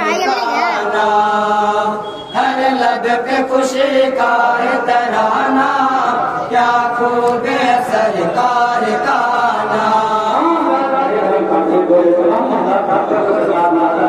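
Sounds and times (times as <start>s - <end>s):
men chanting in chorus: 0.1s - 14.0s.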